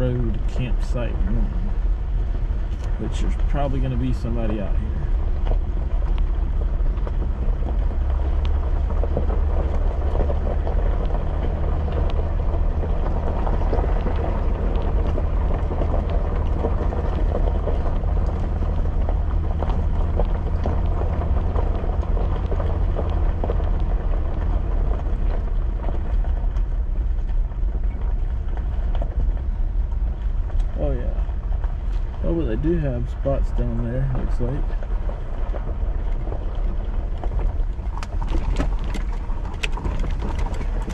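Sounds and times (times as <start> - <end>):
car engine and tyres rumbling: 0.0 - 40.9
gravel crunching and rattling: 0.0 - 40.9.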